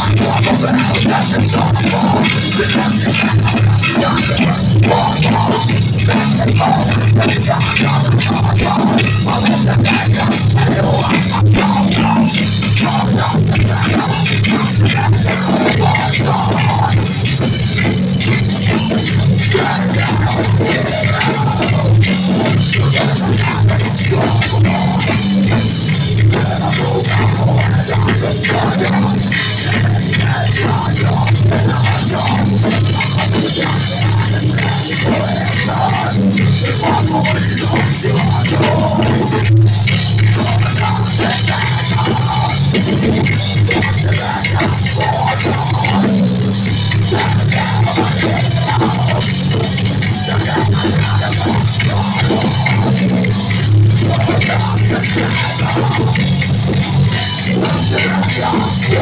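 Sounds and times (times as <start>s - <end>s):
heavy rock band playing: 0.0s - 59.0s.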